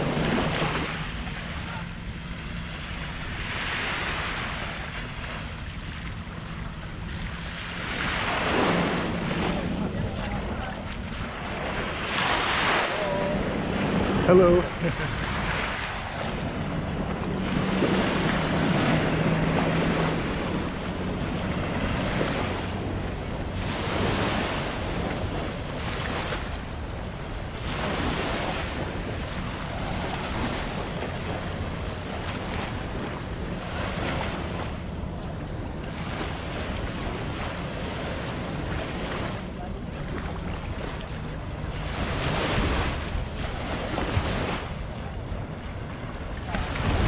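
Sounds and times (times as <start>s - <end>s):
small waves lapping on sand: 0.0s - 47.0s
wind buffeting microphone: 0.0s - 47.0s.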